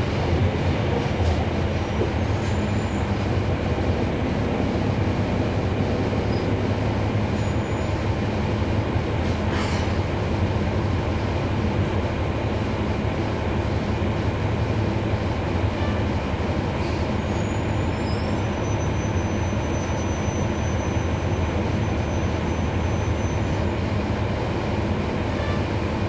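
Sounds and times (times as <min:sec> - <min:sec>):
diesel bus engine droning: 0:00.0 - 0:26.0.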